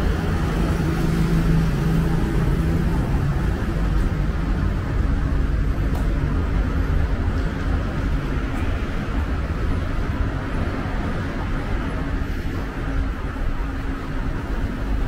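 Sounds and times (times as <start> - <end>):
low engine drone: 0.0 - 15.0
road traffic: 0.0 - 15.0.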